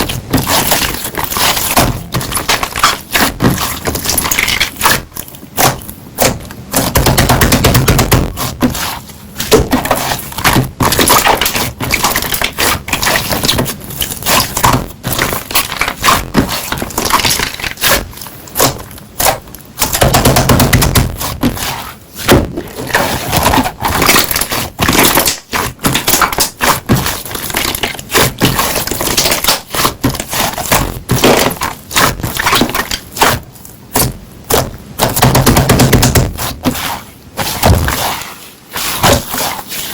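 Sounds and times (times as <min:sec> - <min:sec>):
slime popping and crackling: 0:00.0 - 0:36.6
hands squishing slime: 0:00.0 - 0:39.9.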